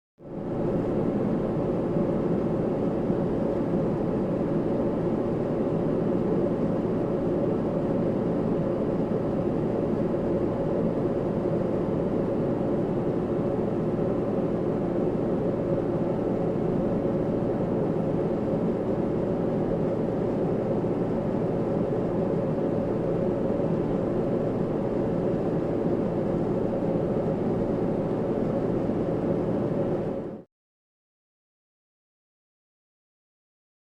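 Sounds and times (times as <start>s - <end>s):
jet cabin engine rumble: 0.3s - 30.5s.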